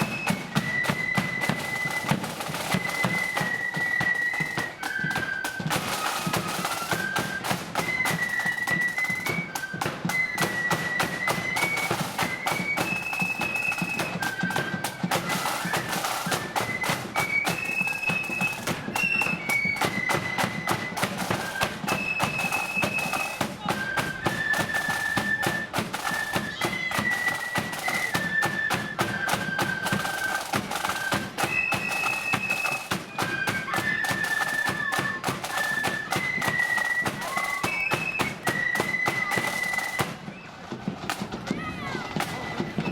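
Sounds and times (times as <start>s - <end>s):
flutes playing melody: 0.0s - 42.9s
rapid snare drumming: 0.0s - 42.9s.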